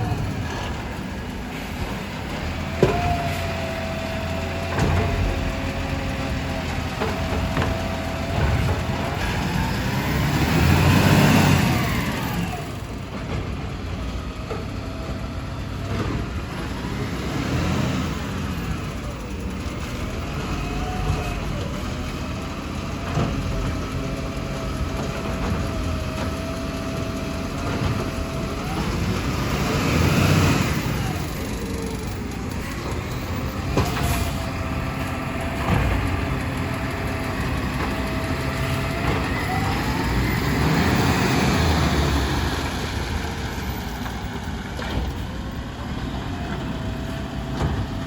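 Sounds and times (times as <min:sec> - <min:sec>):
garbage truck engine whine: 0:00.0 - 0:48.0.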